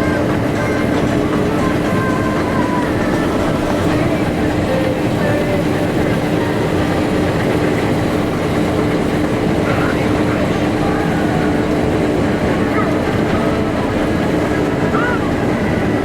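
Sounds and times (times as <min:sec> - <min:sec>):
constant mechanical hum: 0:00.0 - 0:16.0
tractor and harvesting machinery running: 0:00.0 - 0:16.0.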